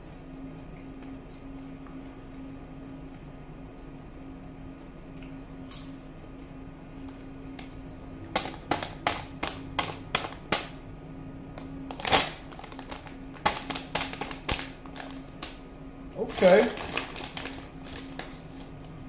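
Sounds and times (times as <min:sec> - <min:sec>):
popcorn being chewed: 0:00.0 - 0:05.8, 0:06.4 - 0:19.0
faint steady hum: 0:00.0 - 0:19.0.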